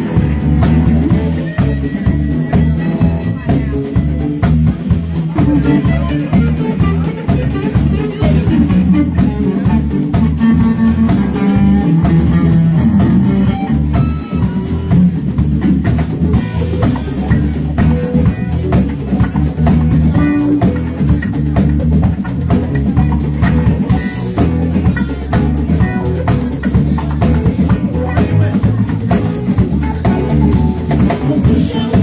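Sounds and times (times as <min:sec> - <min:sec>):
bass guitar: 0:00.0 - 0:32.0
drum kit beat: 0:00.0 - 0:32.0
electric guitar lead lines: 0:00.0 - 0:32.0.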